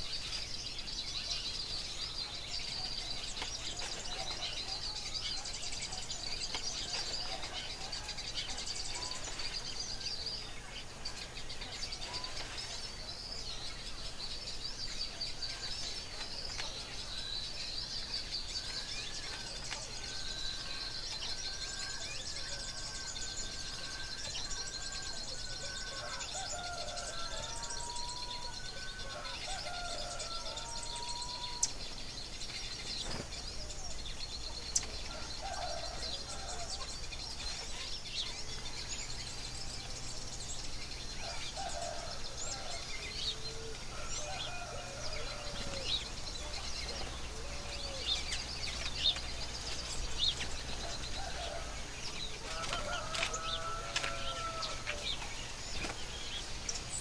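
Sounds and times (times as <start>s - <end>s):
songbirds whistling: 0.0s - 57.0s.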